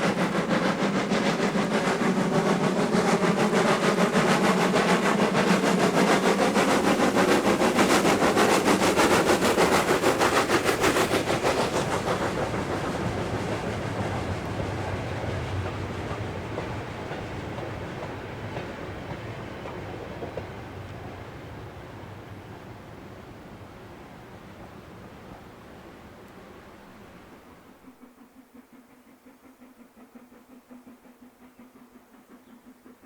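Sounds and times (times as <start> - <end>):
steam train passing: 0.0 - 33.0.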